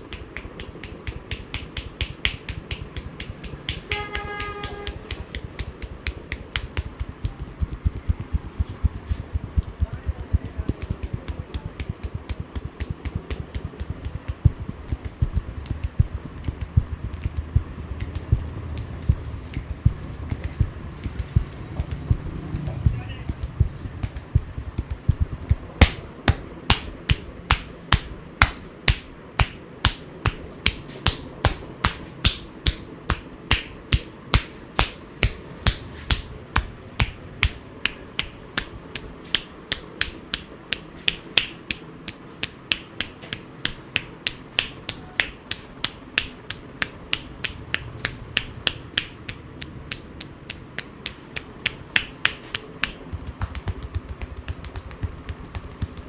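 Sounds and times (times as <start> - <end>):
hands striking in steady beat: 0.0 - 56.0.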